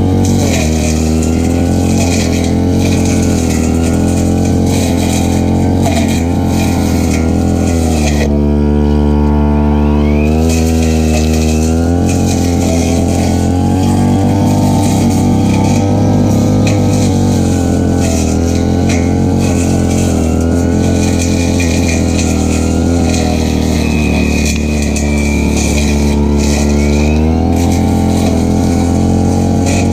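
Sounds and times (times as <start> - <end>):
brush cutter engine cutting grass: 0.0 - 29.9.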